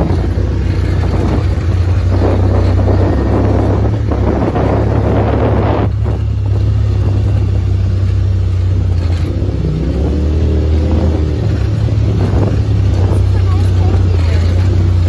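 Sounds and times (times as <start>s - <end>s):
off-road vehicle engine running: 0.0s - 15.0s
tyres on dirt track: 0.0s - 15.0s
wind noise: 0.0s - 15.0s.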